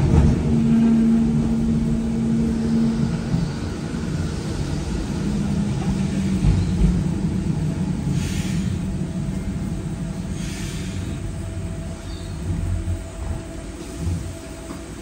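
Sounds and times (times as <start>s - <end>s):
tram running gear rumble: 0.0s - 15.0s.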